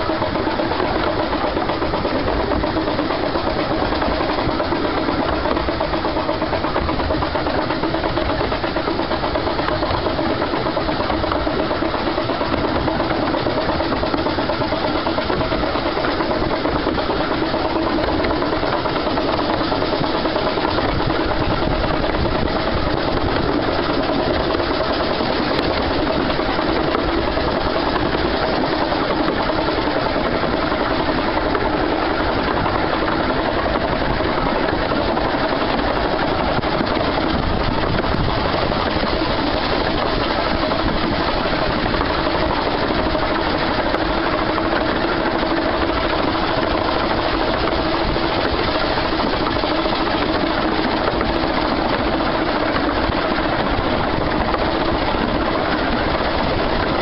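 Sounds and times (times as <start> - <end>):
steam locomotive working: 0.0 - 57.0.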